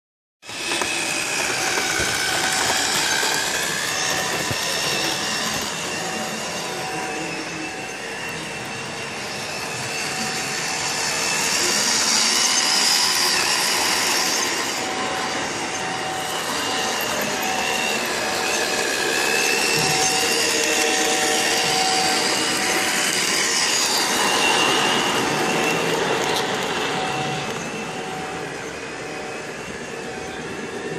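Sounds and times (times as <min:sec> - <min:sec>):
wheels rumbling on rails: 0:00.4 - 0:30.9
model train motor whine: 0:00.5 - 0:30.9.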